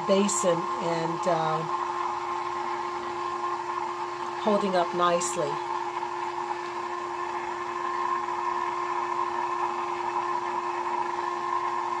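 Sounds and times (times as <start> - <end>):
sump pump humming: 0.0 - 12.0.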